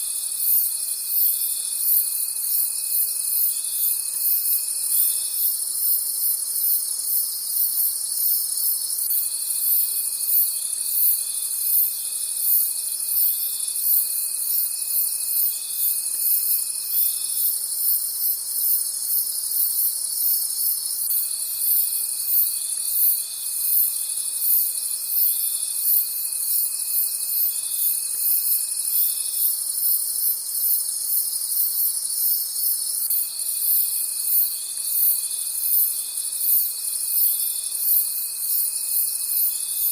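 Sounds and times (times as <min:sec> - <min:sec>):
crickets chirping: 0:00.0 - 0:39.9
low steady insect trill: 0:00.0 - 0:39.9.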